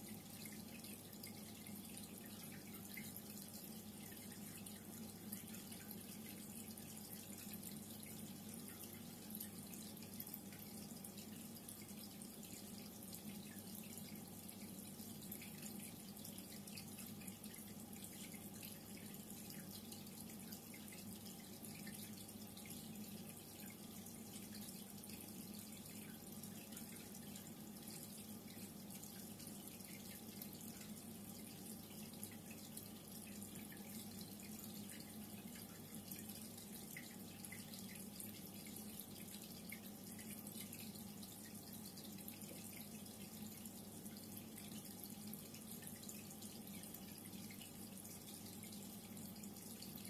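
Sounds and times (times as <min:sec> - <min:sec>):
low steady hum: 0:00.0 - 0:50.0
water trickling and bubbling: 0:00.0 - 0:50.0.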